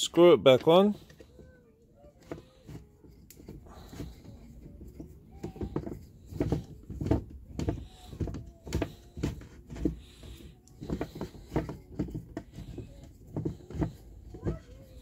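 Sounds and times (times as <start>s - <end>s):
faint squeaks: 0.5s - 15.0s
wooden chair leg knocking and clicking: 2.2s - 15.0s.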